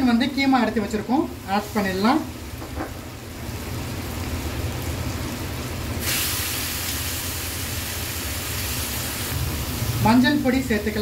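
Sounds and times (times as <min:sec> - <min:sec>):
meat sizzling in hot oil: 0:00.2 - 0:11.0.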